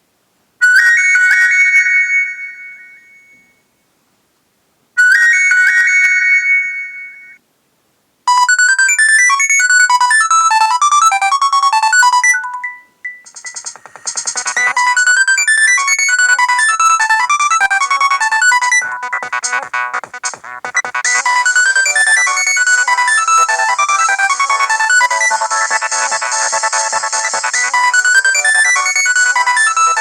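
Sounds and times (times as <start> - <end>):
polyphonic ringtone melody: 5.0 - 7.4, 8.3 - 30.0.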